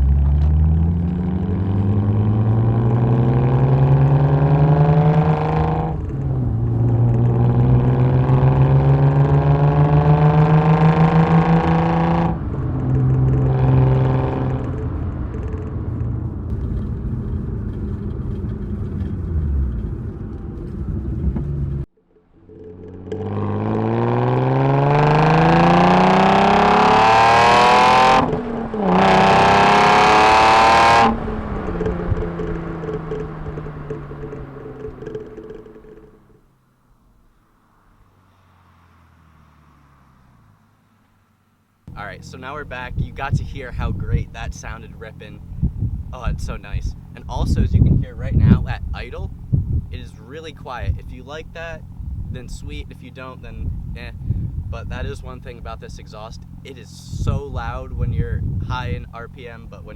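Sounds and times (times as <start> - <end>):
car engine accelerating hard: 0.0 - 36.5, 37.6 - 59.9.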